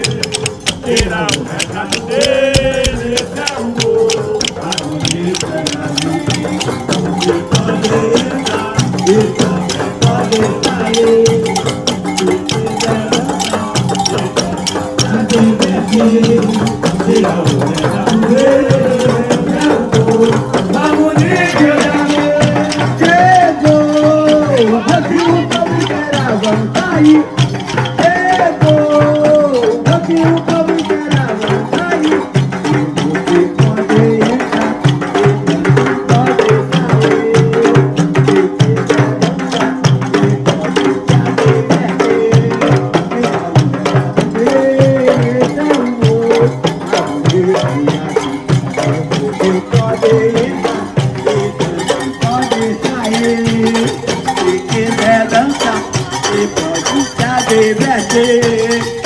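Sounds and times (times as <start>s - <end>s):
frame drums beating: 0.0s - 59.0s
rattling percussion: 0.0s - 59.0s
wavering tune: 0.0s - 59.0s.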